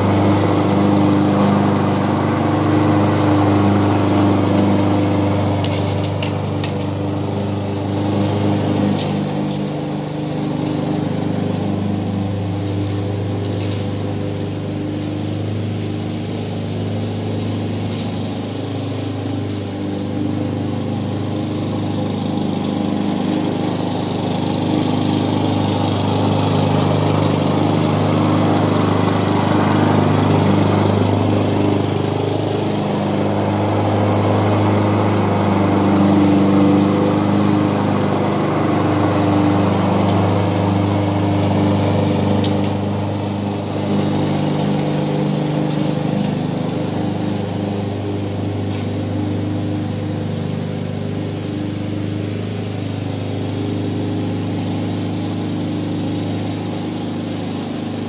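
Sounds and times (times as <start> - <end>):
lawn mower cutting grass: 0.0 - 58.0.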